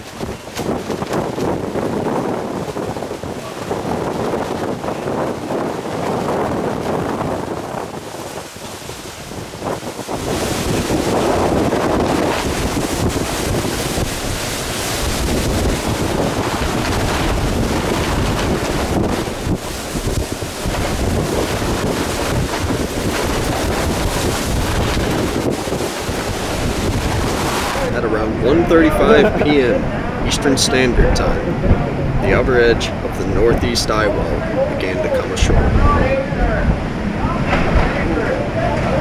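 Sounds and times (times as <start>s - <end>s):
strong wind buffeting microphone: 0.0s - 39.0s.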